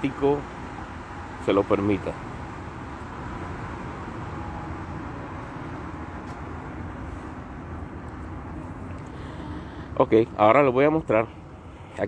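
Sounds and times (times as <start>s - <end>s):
city traffic rumble and hiss: 0.0s - 12.0s.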